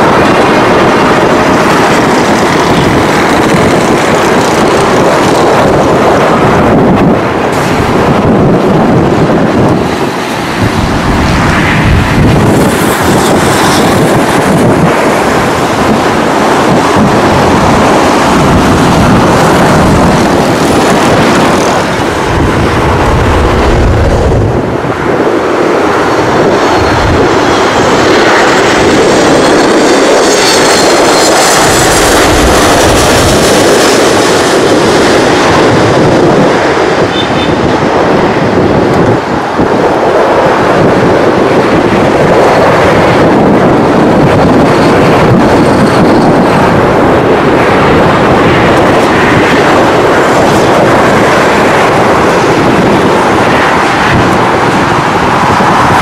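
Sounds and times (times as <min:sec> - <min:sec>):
high jet engine whine: 0:00.0 - 0:56.0
jet roar passing overhead: 0:00.0 - 0:56.0.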